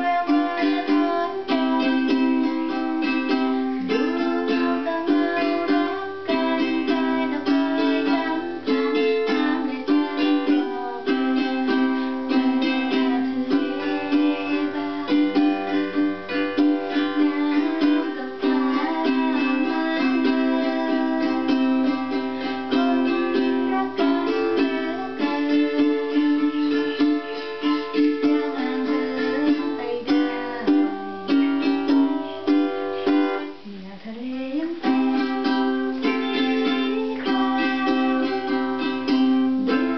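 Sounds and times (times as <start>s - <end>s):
plucked string instrument melody: 0.0s - 33.7s, 34.6s - 39.9s.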